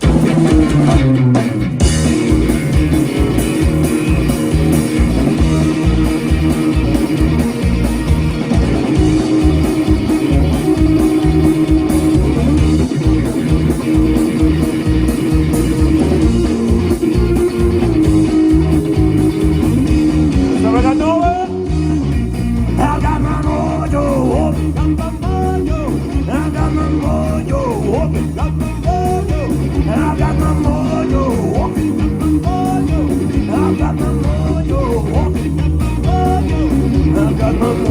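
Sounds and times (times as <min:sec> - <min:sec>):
bass guitar: 0:00.0 - 0:37.9
blues-rock band playing: 0:00.0 - 0:37.9
electric guitar bending notes: 0:00.0 - 0:37.9
steady drum beat: 0:00.0 - 0:37.9.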